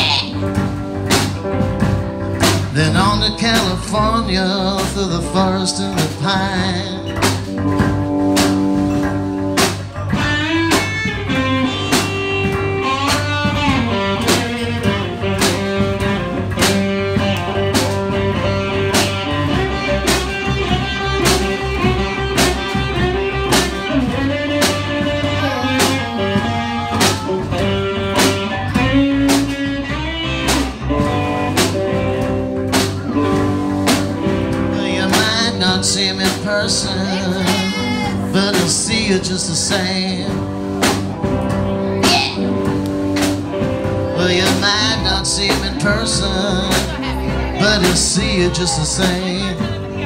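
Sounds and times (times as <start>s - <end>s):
bass guitar: 0.0s - 50.0s
electric guitar lead: 0.0s - 50.0s
steady drum beat: 0.0s - 50.0s.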